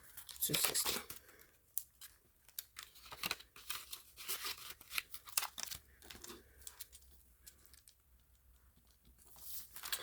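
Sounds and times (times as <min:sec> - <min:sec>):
paper banknotes rustling: 0:00.0 - 0:07.6, 0:09.2 - 0:10.0.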